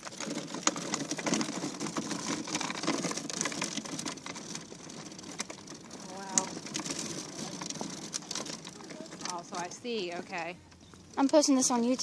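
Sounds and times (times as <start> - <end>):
tyre rolling on gritty asphalt: 0.0 - 12.0.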